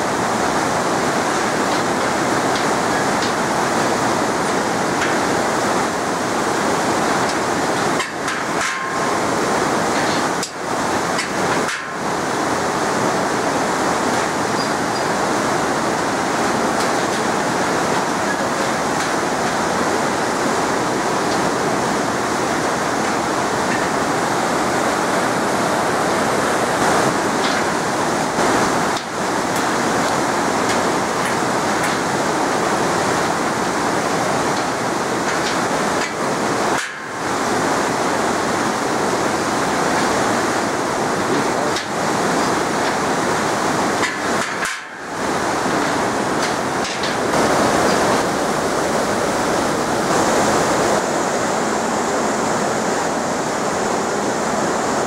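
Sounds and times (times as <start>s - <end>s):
river rushing over rapids: 0.0s - 55.0s.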